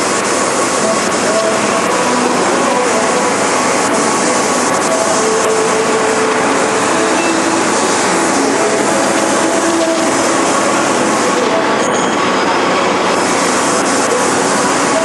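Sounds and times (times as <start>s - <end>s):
machining centre running: 0.0s - 15.0s.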